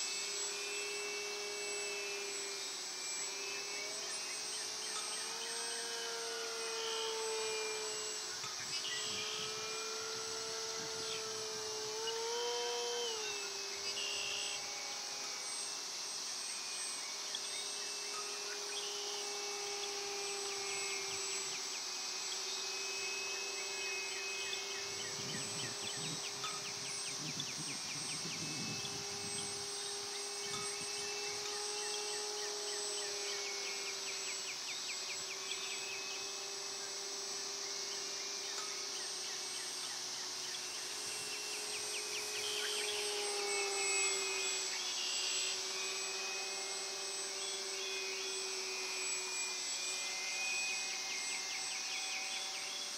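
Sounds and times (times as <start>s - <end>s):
distant model plane motor humming: 0.0s - 52.9s
insects chirping and buzzing: 0.0s - 52.9s.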